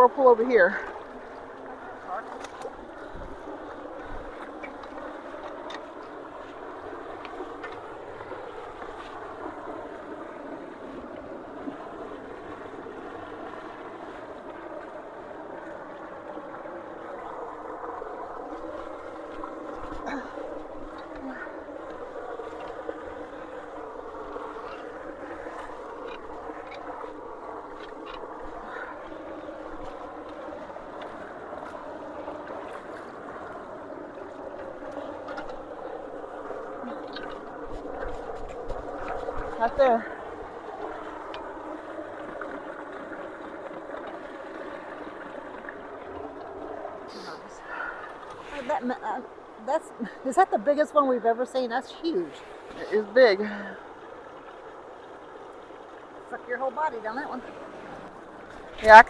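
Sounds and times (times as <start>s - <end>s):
water rushing into culvert: 0.0s - 59.0s.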